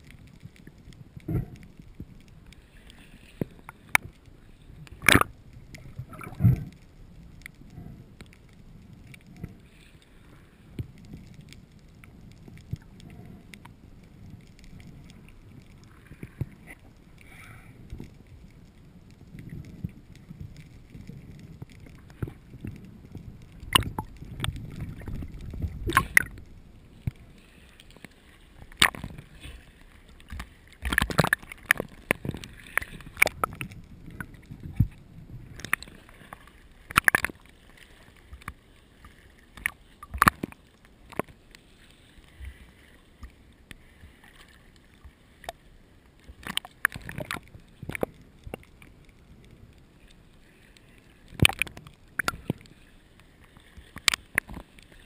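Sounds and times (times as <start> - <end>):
sharp underwater clicks and knocks: 0.0 - 9.6, 10.7 - 41.4, 43.2 - 45.6, 46.2 - 49.6, 51.2 - 52.7, 53.5 - 54.9
low underwater rumble: 0.0 - 55.0.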